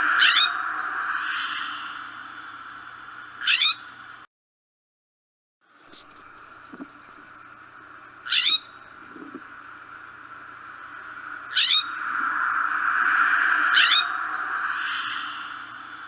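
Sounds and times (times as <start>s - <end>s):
steady background hum: 0.0s - 4.3s, 5.8s - 16.0s.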